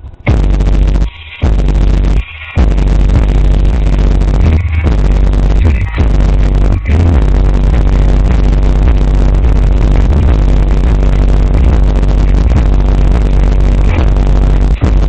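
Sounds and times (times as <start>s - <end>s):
loud subwoofer bass line: 0.0s - 15.0s.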